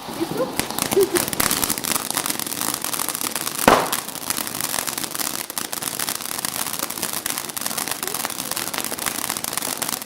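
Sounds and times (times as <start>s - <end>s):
firework fountain hissing and crackling: 0.0s - 10.0s
firework bang: 0.5s - 10.0s.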